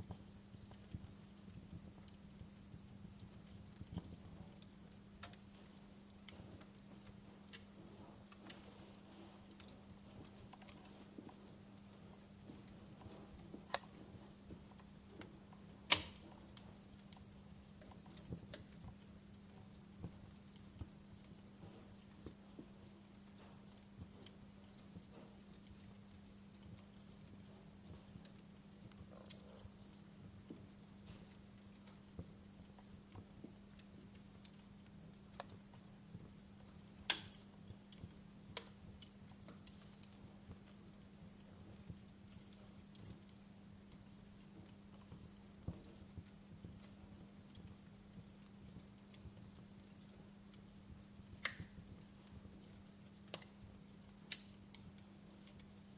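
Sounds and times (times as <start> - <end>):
faint steady hum: 0.0 - 55.9
wood fire crackling: 0.0 - 55.9.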